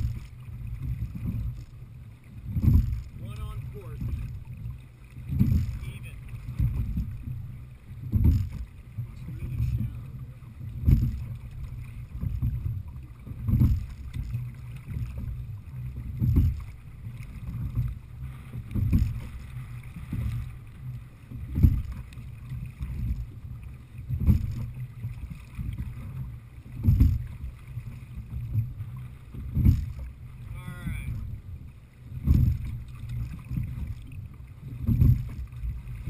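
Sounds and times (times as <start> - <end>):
low thump of rowing strokes: 0.0 - 36.0
wind and choppy water rumble: 0.0 - 36.0.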